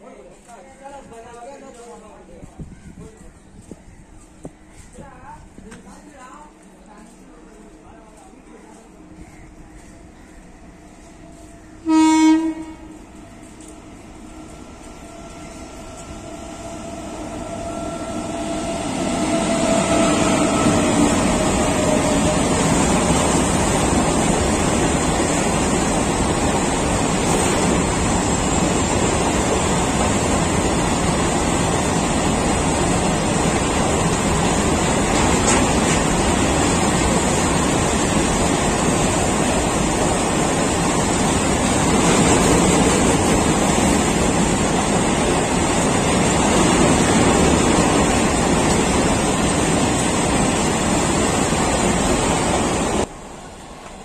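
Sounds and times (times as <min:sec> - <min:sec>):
train wheels rumbling on rails: 0:00.3 - 0:54.0
electric locomotive approaching: 0:03.5 - 0:54.0.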